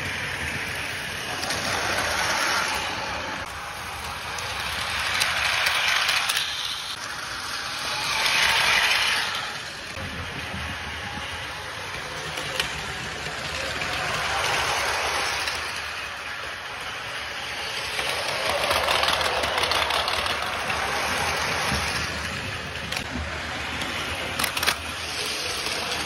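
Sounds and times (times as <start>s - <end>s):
toy train motors whirring: 0.0s - 26.0s
toy train wheels rattling: 0.0s - 26.0s.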